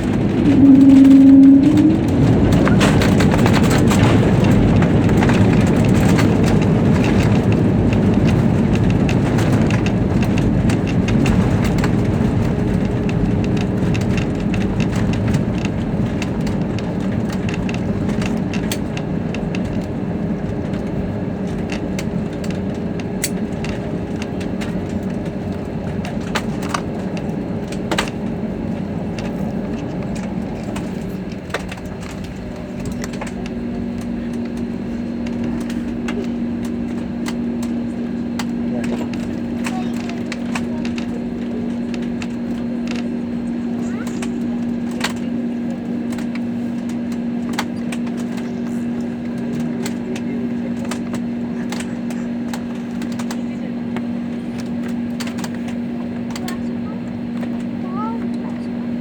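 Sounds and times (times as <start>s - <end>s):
jet engine and airflow rush: 0.0s - 59.0s.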